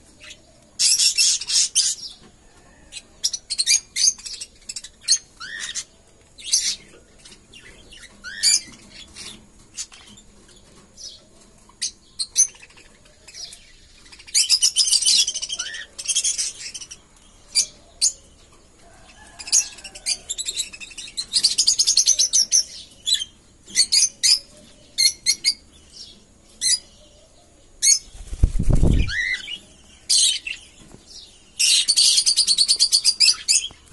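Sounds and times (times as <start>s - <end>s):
parrots chirping and chattering: 0.2s - 2.2s, 2.9s - 27.2s, 28.9s - 33.9s.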